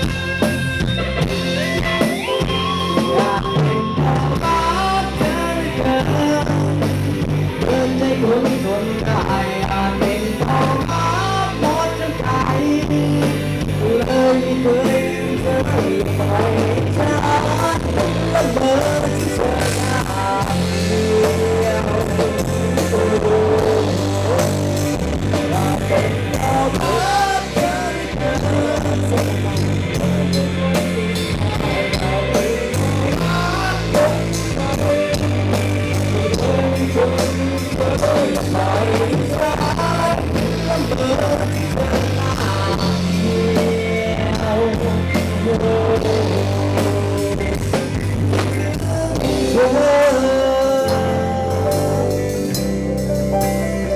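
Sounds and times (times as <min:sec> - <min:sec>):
bass guitar: 0:00.0 - 0:53.9
bending lead melody: 0:00.0 - 0:53.9
drum kit: 0:00.0 - 0:53.9.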